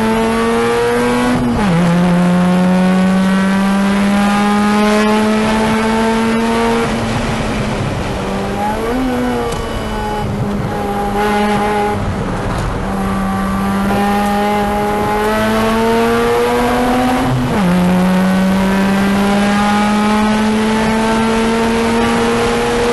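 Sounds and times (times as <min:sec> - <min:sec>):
car engine accelerating: 0:00.0 - 0:22.9
wind and road noise: 0:00.0 - 0:22.9.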